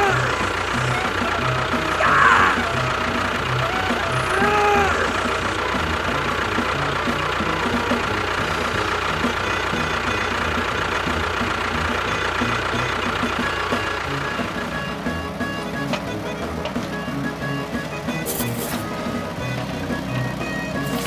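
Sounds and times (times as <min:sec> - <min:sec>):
background music: 0:00.0 - 0:21.0
engine chugging: 0:00.0 - 0:21.0.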